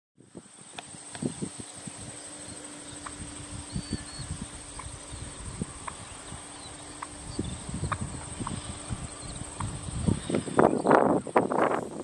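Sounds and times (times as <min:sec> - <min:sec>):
insects chirring: 0:00.2 - 0:12.0.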